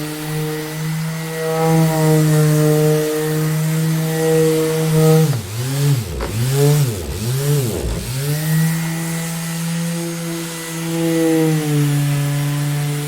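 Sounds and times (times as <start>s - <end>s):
orbital sander buzzing: 0.3s - 13.0s.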